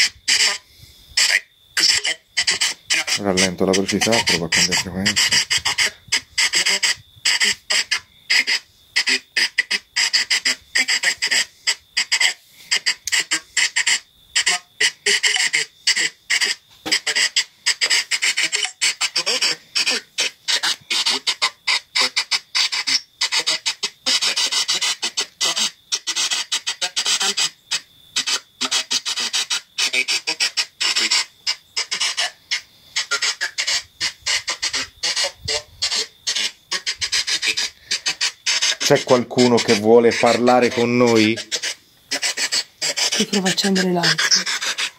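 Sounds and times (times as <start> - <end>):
choppy bursts of radio static: 0.0 - 44.9
broken scraps of voice: 1.2 - 27.5, 33.0 - 44.9.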